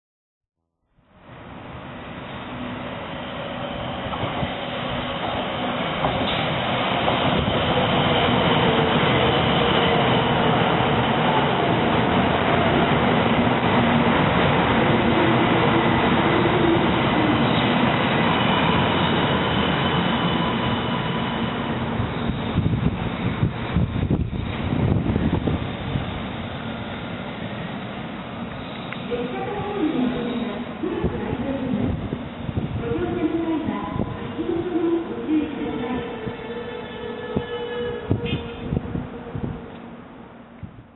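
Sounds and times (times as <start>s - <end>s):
high-speed train running noise: 1.0s - 40.9s.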